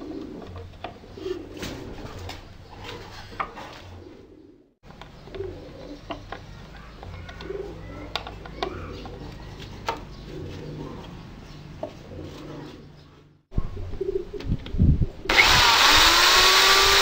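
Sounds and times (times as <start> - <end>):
bird cooing: 0.0 - 15.3.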